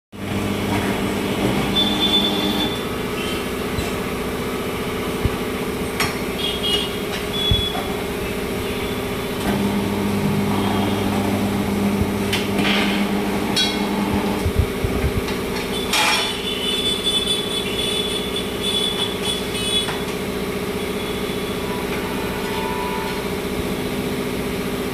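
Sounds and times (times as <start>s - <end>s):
machine humming: 0.2s - 24.9s.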